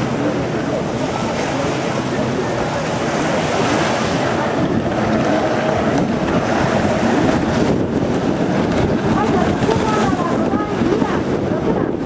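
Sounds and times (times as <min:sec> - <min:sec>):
jet ski engines whining: 0:00.0 - 0:12.0
rushing water and spray: 0:00.0 - 0:12.0.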